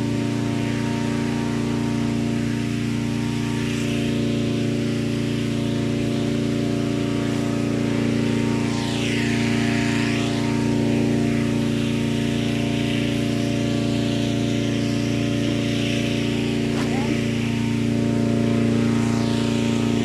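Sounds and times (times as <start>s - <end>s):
inflation fan engine drone: 0.0s - 20.0s.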